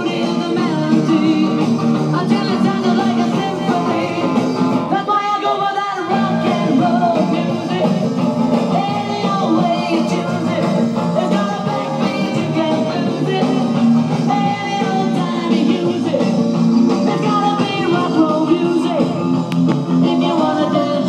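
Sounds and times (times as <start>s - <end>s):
song with singing from speakers: 0.0s - 21.0s.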